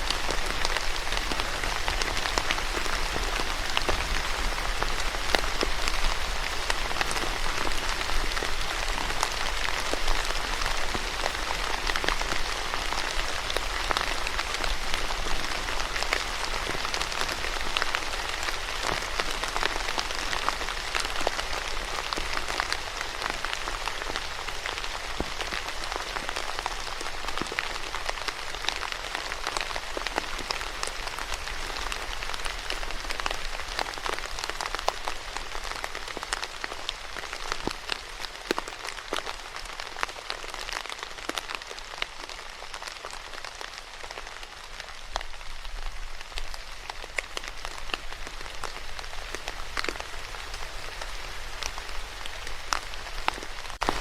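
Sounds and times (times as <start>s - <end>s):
raindrops tapping: 0.0s - 54.0s
steady rain hiss: 0.0s - 54.0s.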